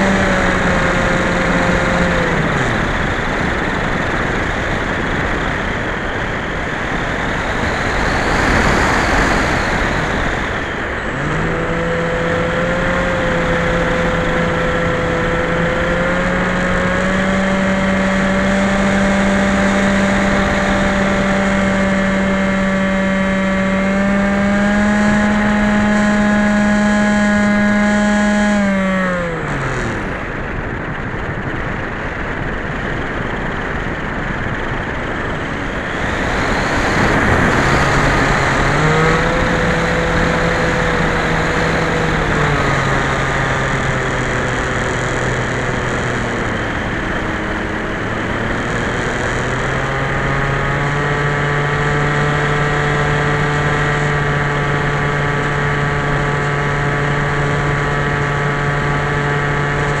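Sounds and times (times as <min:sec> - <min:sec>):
wind rush: 0:00.0 - 0:26.6, 0:28.6 - 1:00.0
electric propeller hum: 0:00.0 - 1:00.0.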